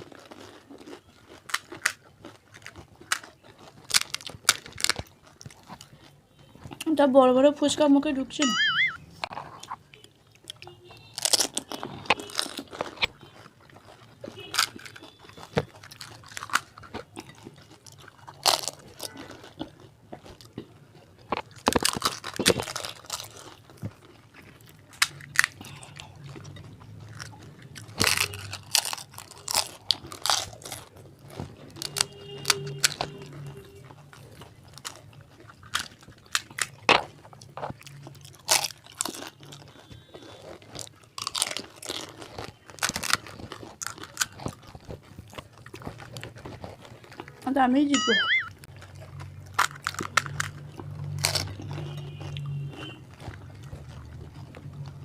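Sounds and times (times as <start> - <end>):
chewing: 0.0 - 7.8, 8.8 - 55.0
crunching of crisp shells: 0.0 - 8.2, 8.9 - 47.9, 48.5 - 55.0.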